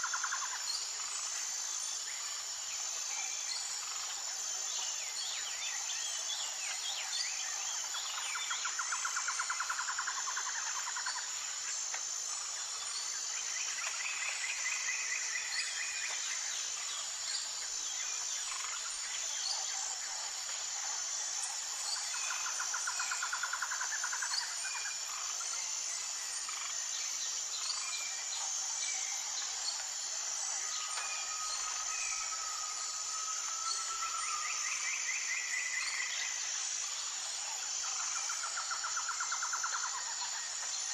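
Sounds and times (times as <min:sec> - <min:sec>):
pulsing insect chorus: 0:00.0 - 0:40.9.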